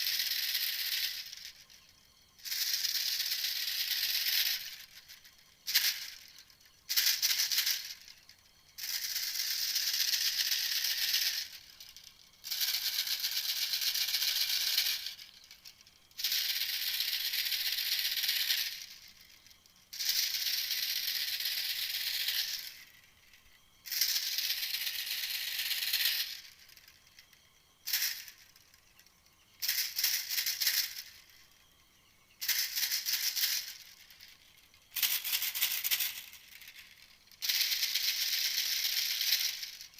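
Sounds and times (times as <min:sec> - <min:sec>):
recorded bird call rattling trill: 0:00.0 - 0:39.9.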